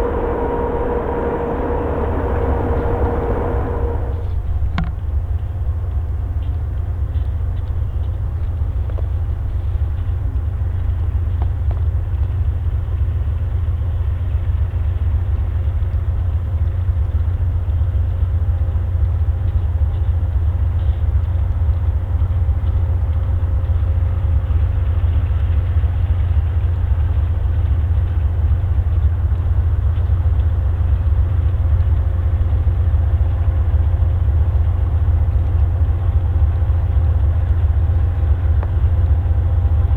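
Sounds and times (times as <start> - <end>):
diesel locomotives rumbling: 0.0 - 39.9.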